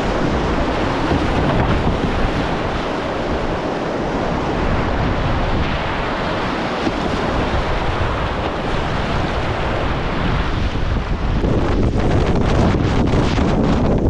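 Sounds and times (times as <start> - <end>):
river rapid rushing: 0.0 - 14.0
wind buffeting microphone: 0.0 - 14.0.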